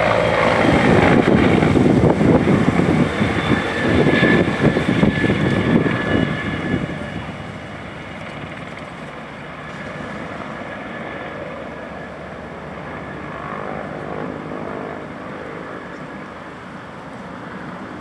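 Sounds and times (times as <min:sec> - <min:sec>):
helicopter rotor and engine drone: 0:00.0 - 0:18.0.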